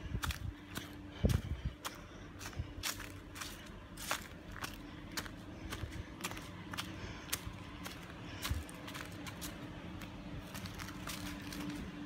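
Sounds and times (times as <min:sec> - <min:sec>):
footsteps on dry leaves: 0:00.0 - 0:12.0.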